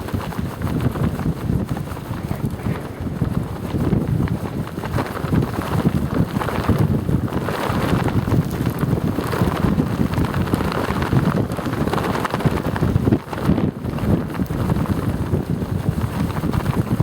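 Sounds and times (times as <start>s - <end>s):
wind buffeting microphone: 0.0s - 17.0s
wind pants flapping: 0.0s - 17.0s.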